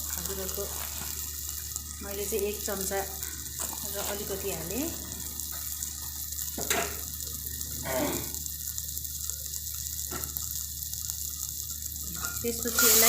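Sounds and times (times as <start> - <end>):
spices sizzling in oil: 0.0 - 13.0.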